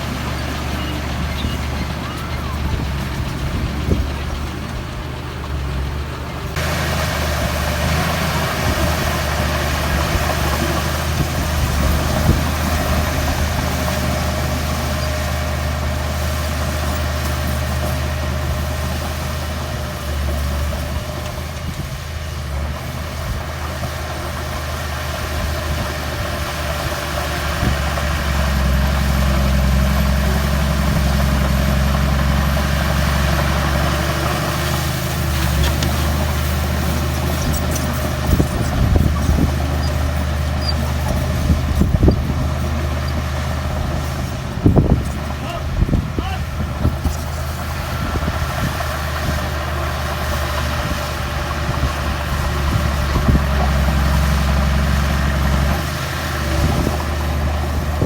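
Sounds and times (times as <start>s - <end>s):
diesel machinery engine hum: 0.0s - 58.0s.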